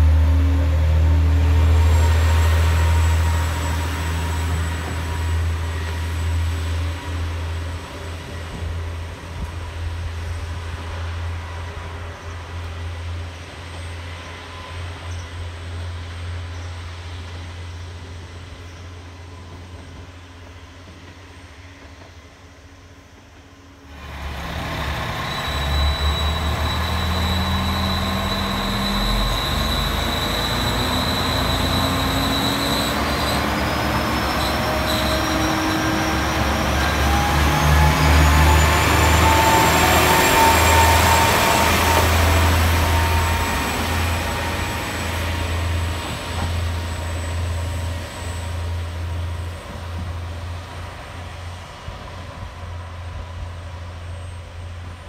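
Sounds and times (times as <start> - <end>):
train passing: 0.0 - 55.0.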